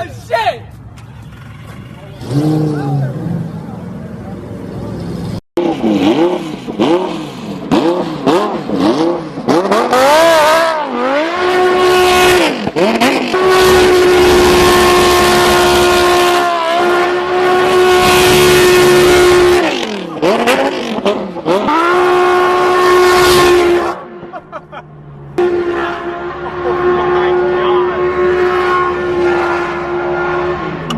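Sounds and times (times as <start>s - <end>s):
sports car engine revving: 1.2s - 24.2s, 25.0s - 30.9s.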